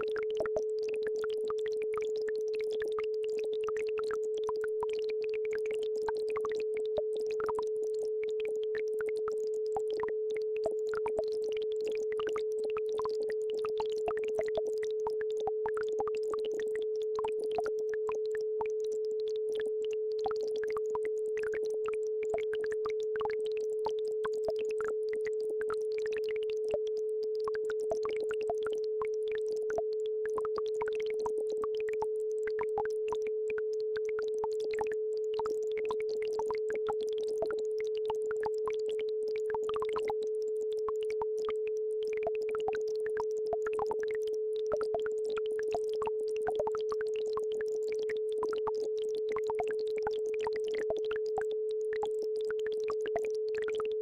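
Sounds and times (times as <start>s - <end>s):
brook trickling and bubbling: 3.6s - 26.8s, 27.6s - 54.0s.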